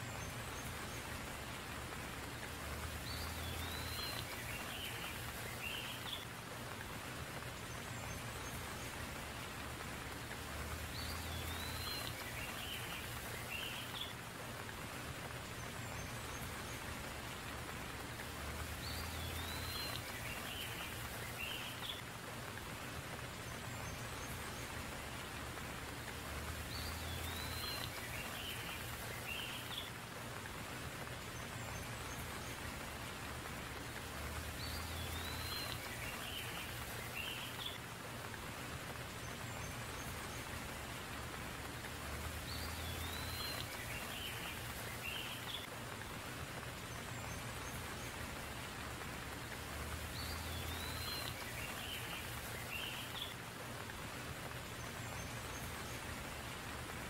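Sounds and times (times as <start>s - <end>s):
steady rain pattering on leaves: 0.0s - 57.0s.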